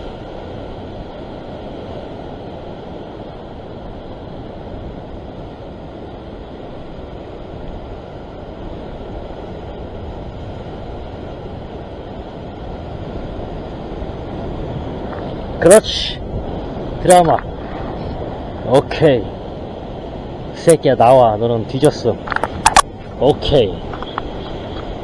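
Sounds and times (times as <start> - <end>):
ocean swell against rocks: 0.0 - 25.0.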